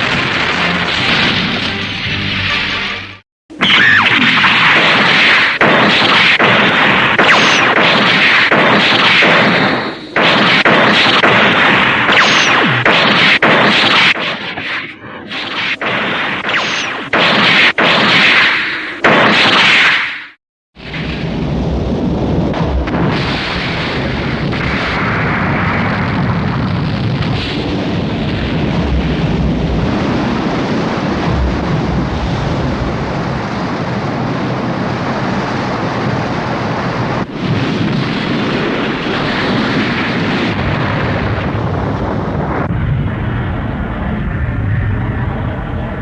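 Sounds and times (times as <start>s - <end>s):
rumbling crackling explosion: 0.0s - 2.9s, 3.5s - 46.0s.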